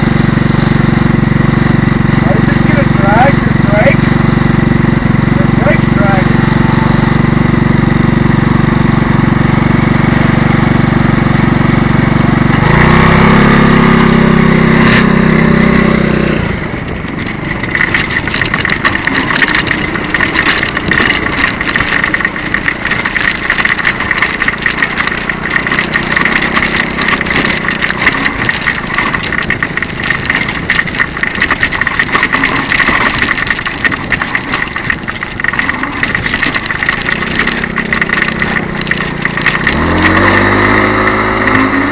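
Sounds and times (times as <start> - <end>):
trike engine idling and revving: 0.0 - 41.9.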